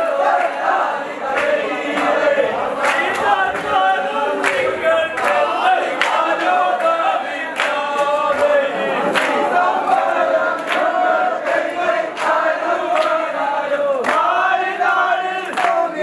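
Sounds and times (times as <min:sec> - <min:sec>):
men singing in chorus: 0:00.0 - 0:16.0.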